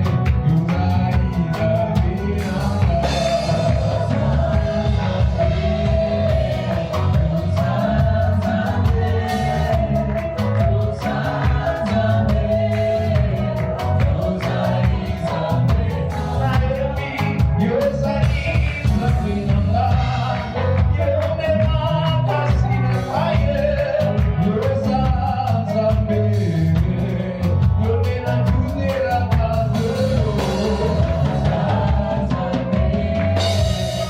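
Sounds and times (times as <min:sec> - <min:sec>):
gospel band with singing: 0:00.0 - 0:34.0
regular drum beat: 0:00.0 - 0:34.0
steady bass: 0:00.0 - 0:34.0.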